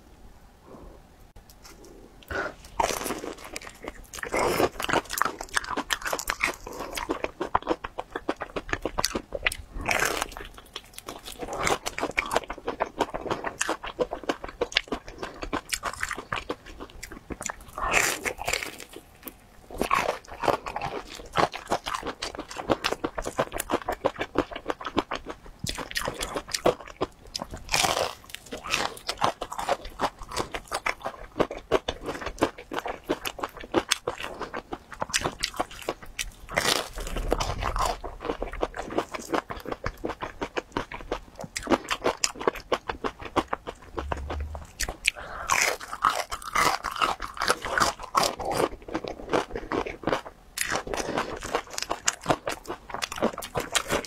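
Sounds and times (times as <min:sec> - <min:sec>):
crackly chewing: 0:01.4 - 0:54.0
crunchy bites of fried chicken: 0:02.7 - 0:54.0.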